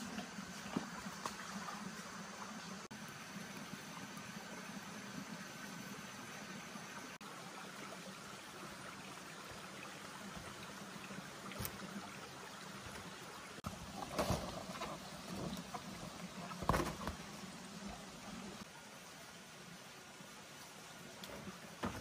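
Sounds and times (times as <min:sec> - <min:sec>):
outdoor ambience hiss: 0:00.0 - 0:22.0.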